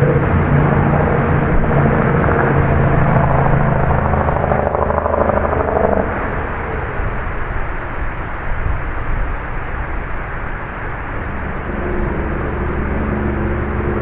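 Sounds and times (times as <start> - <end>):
heavy rain: 0.0 - 14.0
low rumble on microphone: 0.0 - 14.0
wind gusting: 0.0 - 14.0.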